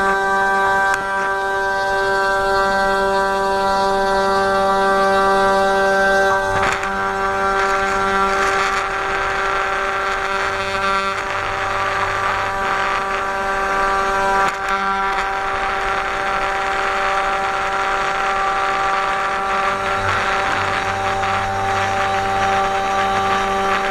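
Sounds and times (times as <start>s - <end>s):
end mill cutting wood: 0.0s - 23.9s
low hum: 0.0s - 23.9s
router spindle whining: 0.0s - 23.9s.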